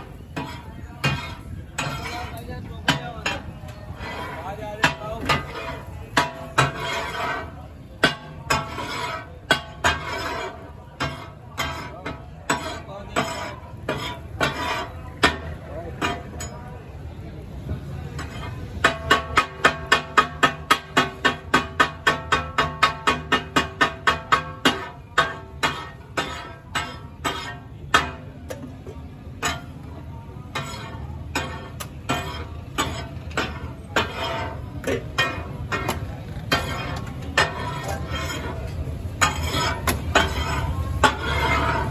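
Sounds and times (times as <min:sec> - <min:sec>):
metal blades clanking on a griddle: 0:00.0 - 0:41.9.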